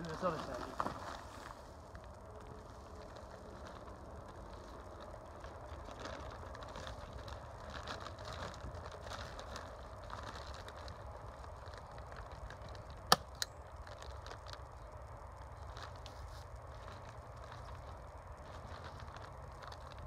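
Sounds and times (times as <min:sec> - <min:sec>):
plastic sheeting rustling: 0:00.0 - 0:13.1, 0:15.4 - 0:20.0.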